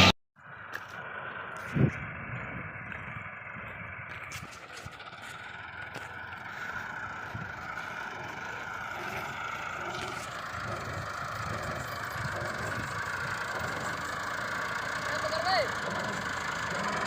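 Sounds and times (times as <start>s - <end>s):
diesel machinery engine running: 0.0s - 17.0s.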